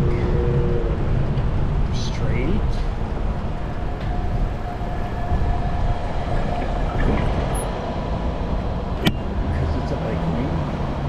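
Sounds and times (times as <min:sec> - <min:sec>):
bicycle riding rumble: 0:00.0 - 0:11.0
city traffic: 0:00.0 - 0:11.0.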